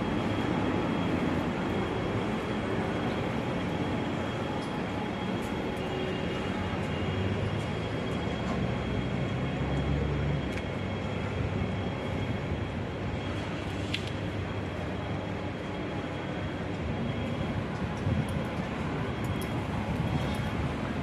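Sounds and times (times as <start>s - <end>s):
faint high whine: 0.0s - 21.0s
road traffic rumble: 0.0s - 21.0s.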